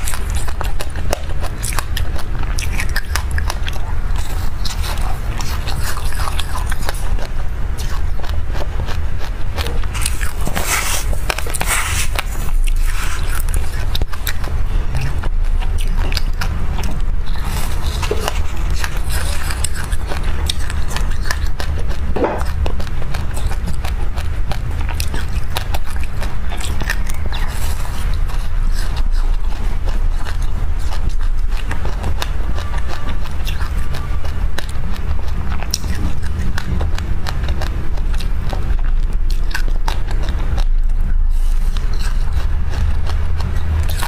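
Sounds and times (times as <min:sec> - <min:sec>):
crunchy chewing of seeds: 0:00.0 - 0:44.0
low steady hum: 0:00.0 - 0:44.0.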